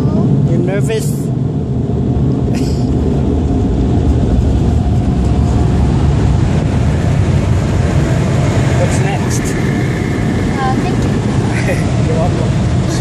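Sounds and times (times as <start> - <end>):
car wash air blowers: 0.3 - 13.0.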